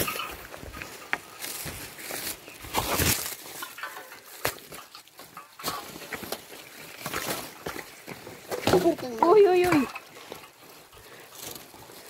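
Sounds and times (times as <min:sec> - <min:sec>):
footsteps on trail: 0:00.0 - 0:12.0
undergrowth brushing and rustling: 0:00.0 - 0:12.0.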